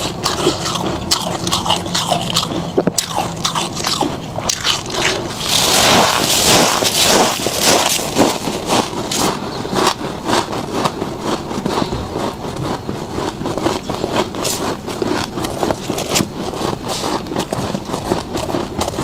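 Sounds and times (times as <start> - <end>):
frost being chewed crunching: 0.0 - 19.0.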